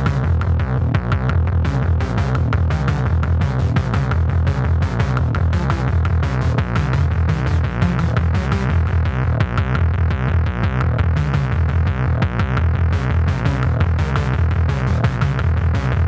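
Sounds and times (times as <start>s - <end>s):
heavy distorted bass line: 0.0s - 16.0s.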